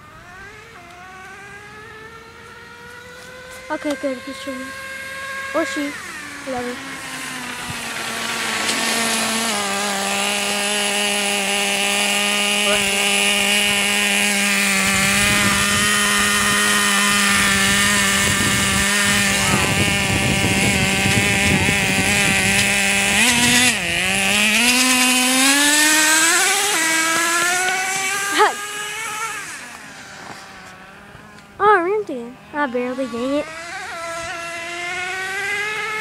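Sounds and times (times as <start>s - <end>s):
small two-stroke engine buzzing: 0.0s - 36.0s.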